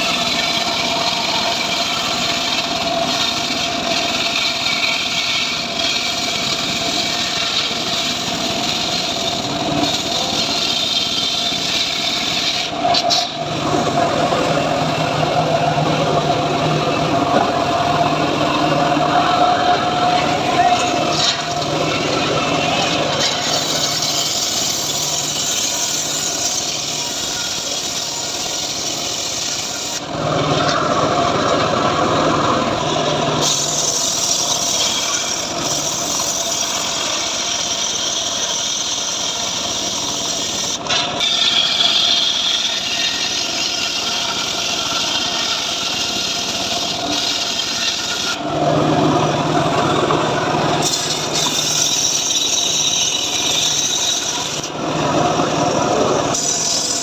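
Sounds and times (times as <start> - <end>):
engine-driven circular saw cutting wood: 0.0 - 57.0.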